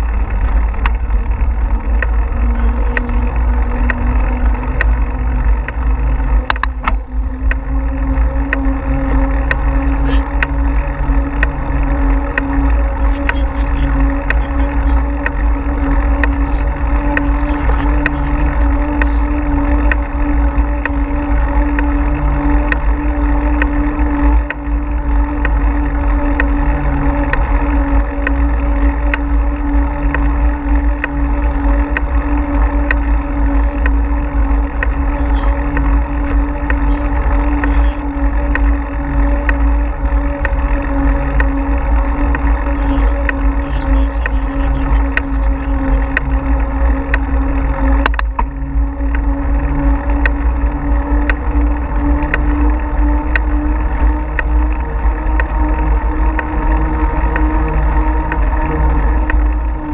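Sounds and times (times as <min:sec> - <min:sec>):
bicycle ticks and rattles: 0:00.0 - 0:59.9
steady hum: 0:00.0 - 0:59.9
wind buffeting microphone: 0:00.0 - 0:59.9.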